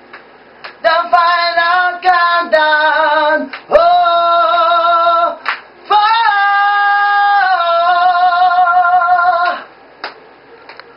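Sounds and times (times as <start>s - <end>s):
man singing a cappella: 0.8s - 9.7s.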